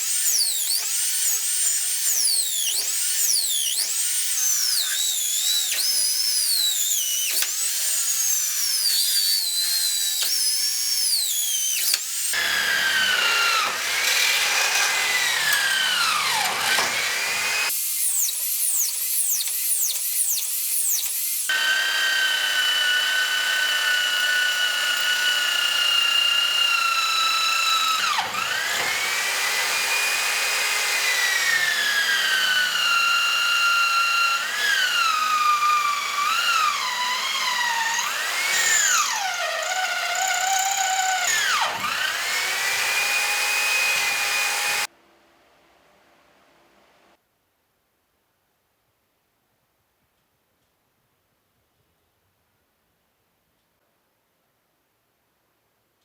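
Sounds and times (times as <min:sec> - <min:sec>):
power tool motor whining: 0:00.0 - 0:44.9.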